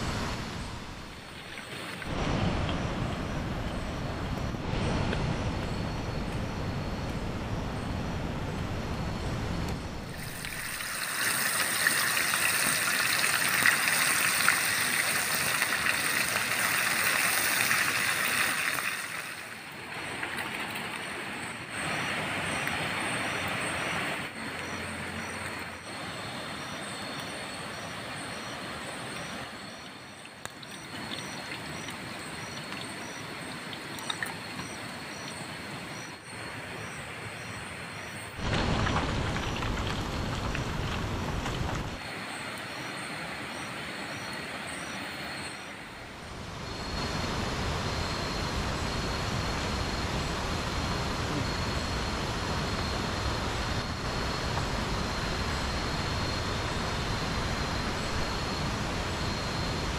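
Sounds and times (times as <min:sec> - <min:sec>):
rainforest night ambience hiss: 0:00.0 - 0:59.9
insect chirping: 0:00.3 - 0:59.9.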